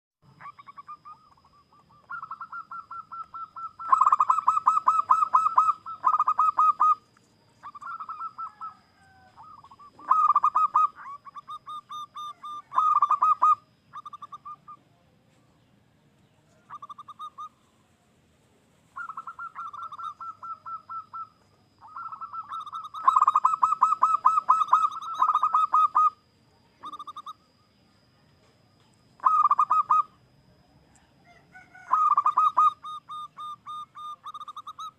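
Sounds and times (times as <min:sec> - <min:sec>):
faint steady high tone: 0:00.2 - 0:34.9
dove cooing: 0:00.3 - 0:14.8, 0:16.6 - 0:17.9, 0:18.9 - 0:27.5, 0:29.2 - 0:34.9.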